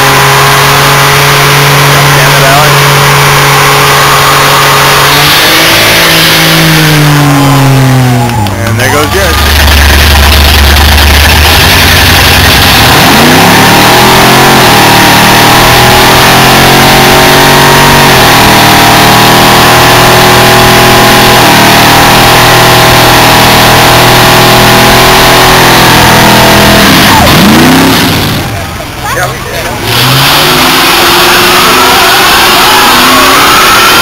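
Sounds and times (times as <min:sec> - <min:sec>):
car engine revving for a burnout: 0:00.0 - 0:34.0.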